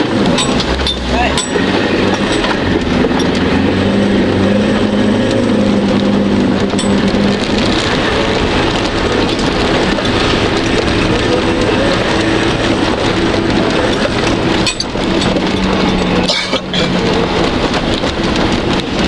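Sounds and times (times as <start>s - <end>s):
body rattling: 0.0s - 19.0s
tyre and mud spray noise: 0.0s - 19.0s
vehicle engine running: 0.0s - 19.0s.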